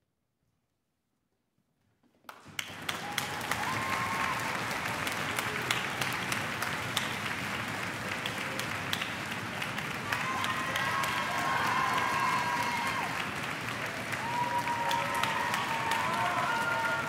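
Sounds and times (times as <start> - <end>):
audience applause: 2.3 - 17.0.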